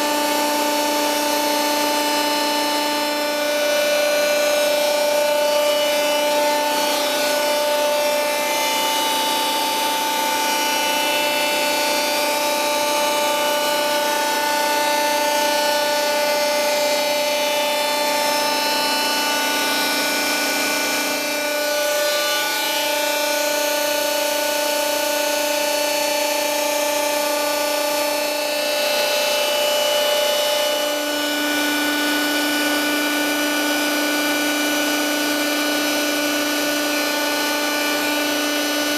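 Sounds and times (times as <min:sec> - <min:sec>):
hydraulic pump whine: 0:00.0 - 0:38.9.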